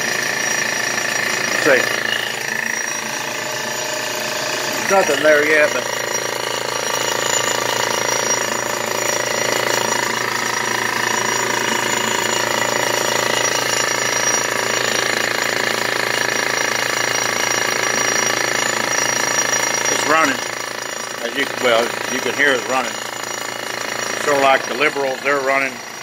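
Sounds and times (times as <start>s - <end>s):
air compressor running: 0.0s - 26.0s.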